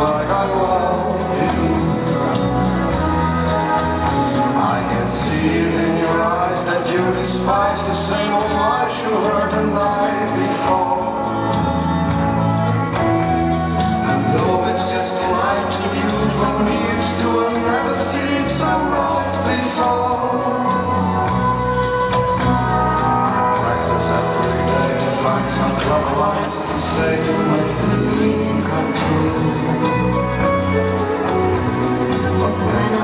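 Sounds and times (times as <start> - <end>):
latin dance music with singing: 0.0 - 33.0.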